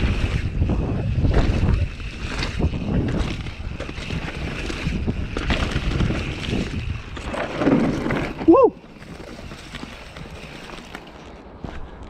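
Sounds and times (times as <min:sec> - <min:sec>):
wind buffeting microphone: 0:00.0 - 0:10.5
bike clacks: 0:00.0 - 0:12.0
bike tyres on loose dirt: 0:00.0 - 0:12.0.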